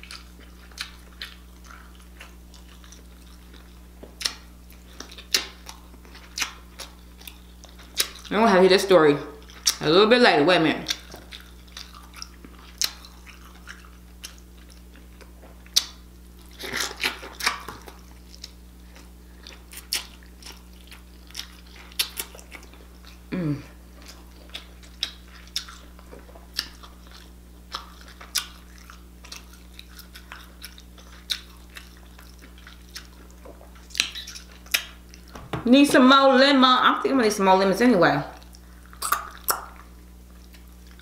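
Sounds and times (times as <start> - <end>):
lip smacks: 0.0 - 8.3, 10.9 - 23.2, 24.0 - 35.4, 38.4 - 41.0
wet chewing: 0.0 - 8.4, 9.4 - 9.8, 10.8 - 35.4, 38.3 - 41.0.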